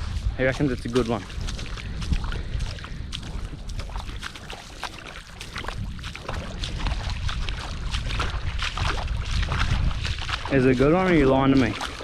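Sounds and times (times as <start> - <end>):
shallow water splashing: 0.0 - 12.0
wind on microphone: 0.0 - 12.0.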